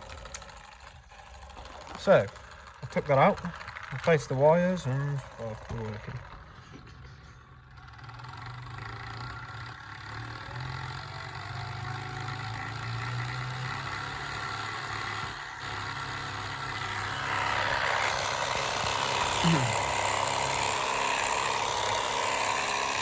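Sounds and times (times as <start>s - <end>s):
vacuum cleaner motor whining: 0.0s - 23.0s.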